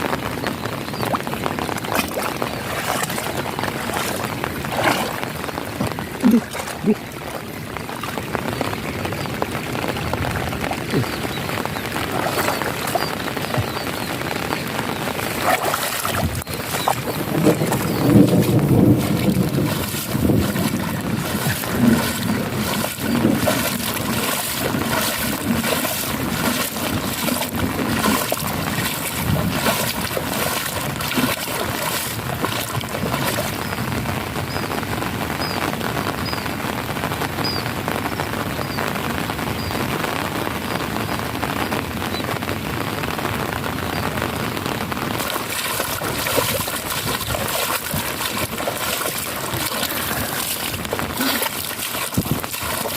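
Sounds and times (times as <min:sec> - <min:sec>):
running water: 0:00.0 - 0:34.7, 0:44.6 - 0:52.9
heavy rain splashing: 0:00.0 - 0:52.9.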